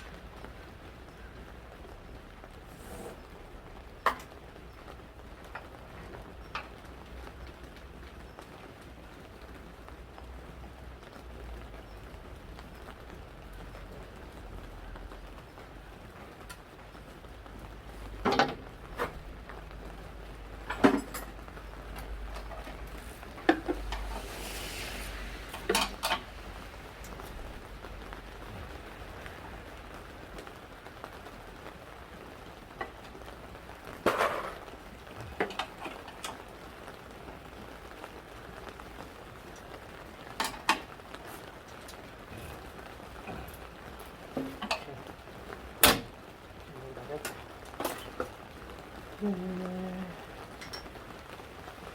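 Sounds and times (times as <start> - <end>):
steady hiss: 0.0 - 51.9.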